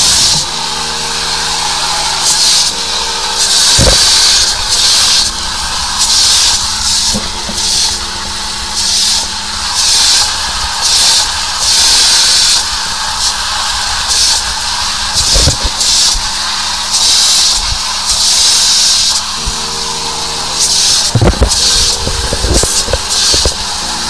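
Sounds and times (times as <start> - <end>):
steady low hum: 0.0 - 16.6, 19.2 - 24.0
high-pressure hose spraying water: 0.0 - 24.0.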